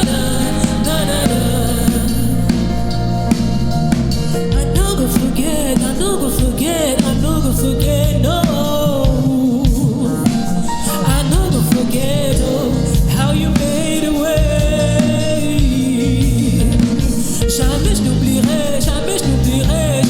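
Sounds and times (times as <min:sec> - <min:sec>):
band accompaniment with bass: 0:00.0 - 0:20.0
person singing: 0:00.0 - 0:20.0.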